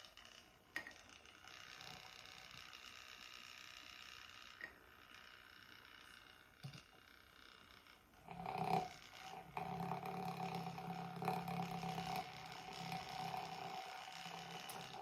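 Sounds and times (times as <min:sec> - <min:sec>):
electric whisk motor humming: 0:00.0 - 0:15.0.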